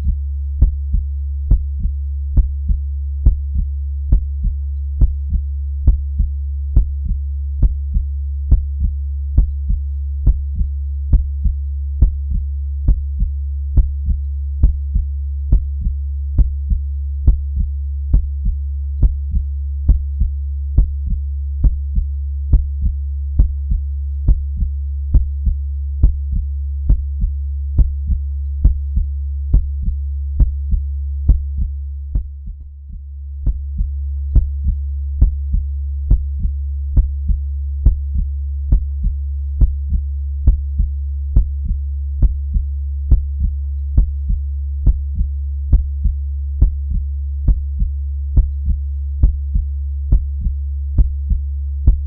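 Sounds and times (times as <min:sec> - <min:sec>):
heartbeat: 0:00.0 - 0:52.0
steady low hum: 0:00.0 - 0:52.0.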